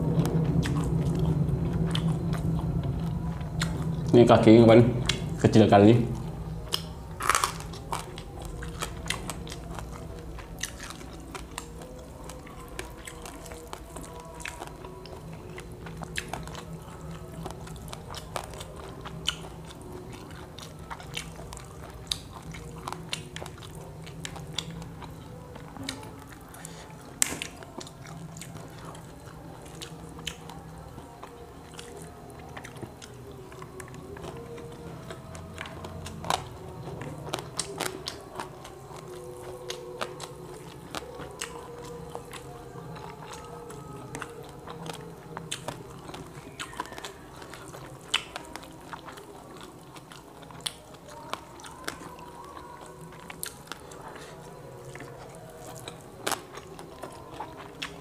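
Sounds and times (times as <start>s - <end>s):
chewing and biting: 0.0s - 4.1s, 6.2s - 58.0s
faint background music: 0.0s - 58.0s.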